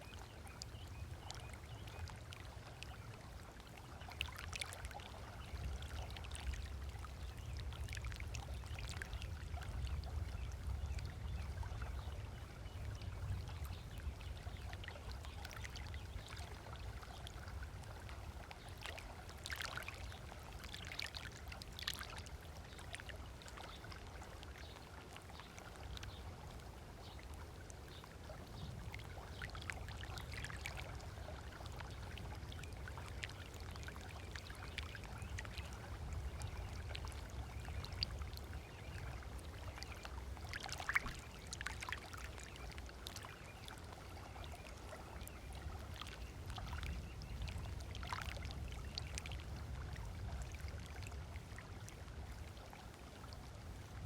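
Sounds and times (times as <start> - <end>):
low steady rumble: 0.0 - 42.4, 44.0 - 54.0
small waves lapping on shore: 0.0 - 54.0.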